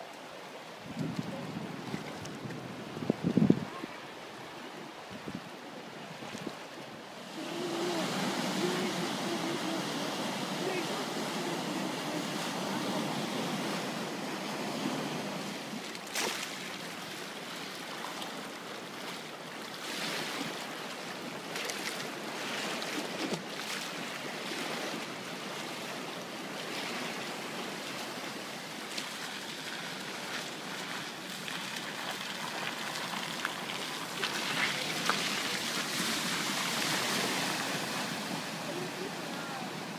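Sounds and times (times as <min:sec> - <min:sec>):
river rushing through rapids: 0:03.6 - 0:39.9.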